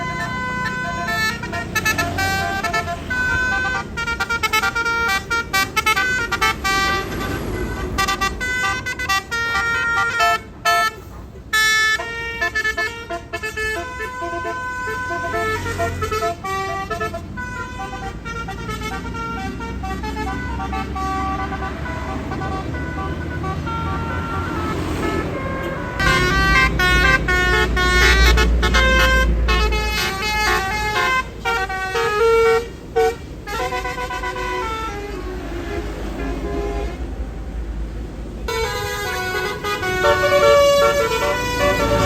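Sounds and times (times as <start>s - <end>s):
bus engine rumbling: 0.0s - 42.0s
musical bus horns: 0.0s - 42.0s.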